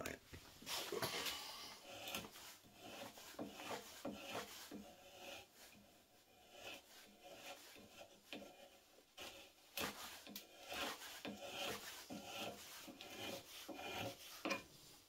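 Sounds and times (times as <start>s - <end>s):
knife whittling wood: 0.8s - 14.7s.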